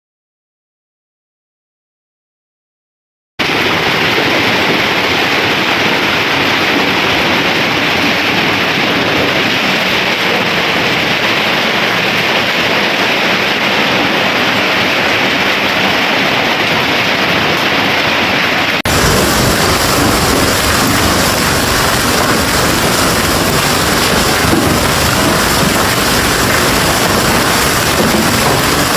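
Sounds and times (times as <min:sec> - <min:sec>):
hail and rain pelting: 0:03.4 - 0:28.9.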